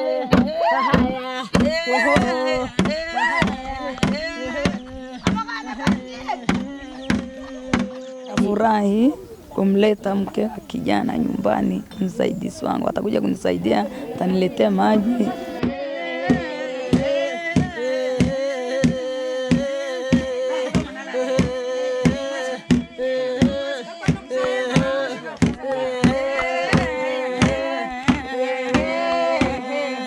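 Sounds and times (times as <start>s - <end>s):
voices singing a chant: 0.0s - 30.0s.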